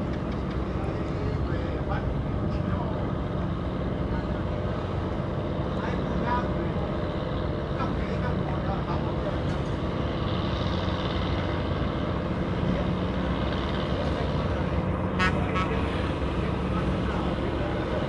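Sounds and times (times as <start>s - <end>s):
boat engines droning: 0.0s - 18.0s.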